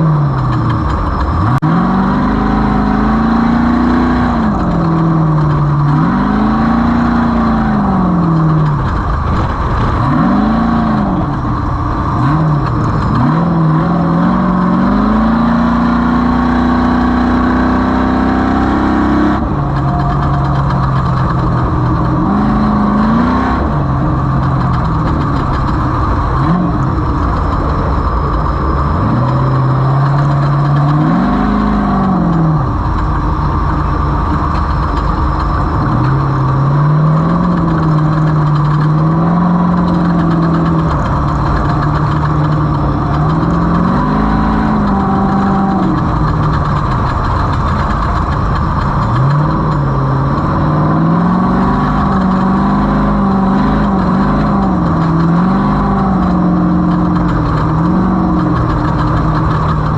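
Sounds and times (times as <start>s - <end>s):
race vehicle engine revving: 0.0s - 59.9s
steady rushing noise: 0.0s - 59.9s.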